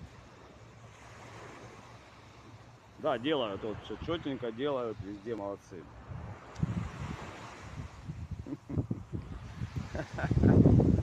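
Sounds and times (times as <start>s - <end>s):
rushing outdoor noise: 0.0s - 11.0s.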